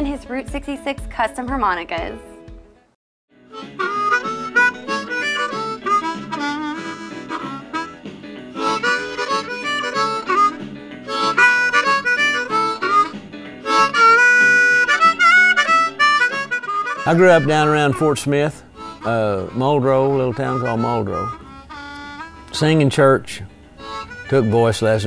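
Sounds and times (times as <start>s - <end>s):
blues harmonica: 3.4s - 25.0s.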